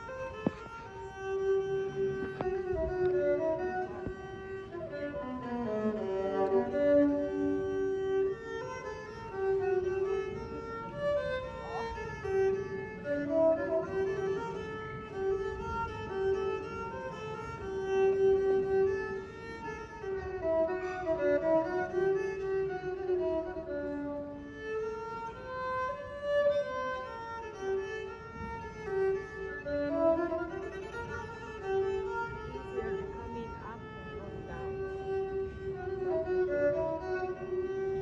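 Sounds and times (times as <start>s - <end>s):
slow fiddle melody: 0.0s - 38.0s.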